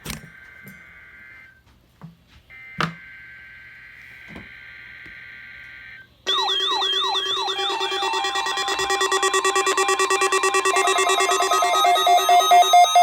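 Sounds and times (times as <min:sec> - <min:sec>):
electronic emergency alert alarm: 0:02.5 - 0:13.0.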